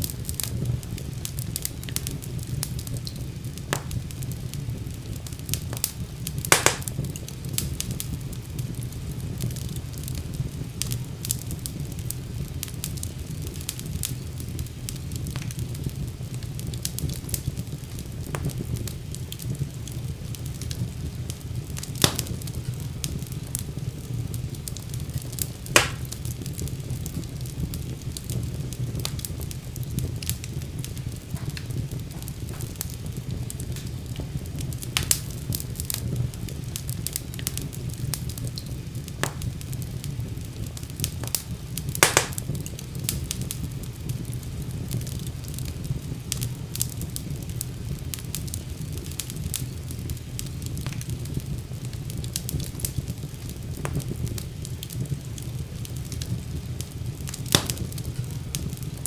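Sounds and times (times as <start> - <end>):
fire crackling and popping: 0.0 - 59.0
wood fire rumbling: 0.0 - 59.0.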